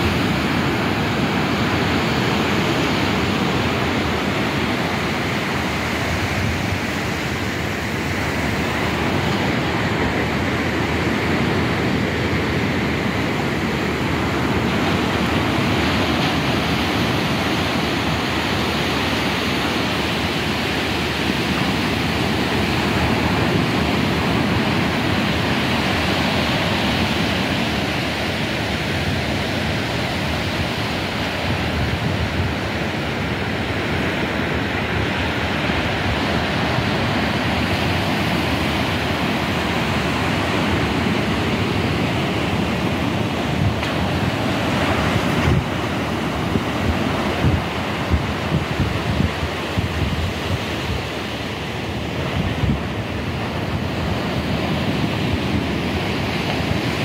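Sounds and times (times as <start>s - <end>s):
surf washing up beach: 0.0s - 57.0s.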